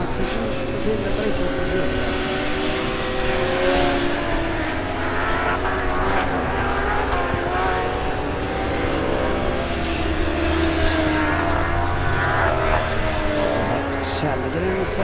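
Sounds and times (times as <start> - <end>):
racing motorcycles at high revs: 0.0 - 15.0.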